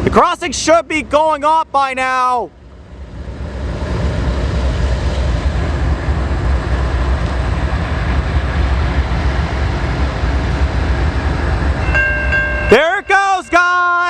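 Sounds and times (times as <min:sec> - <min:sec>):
diesel locomotives rumbling past: 0:00.0 - 0:14.0.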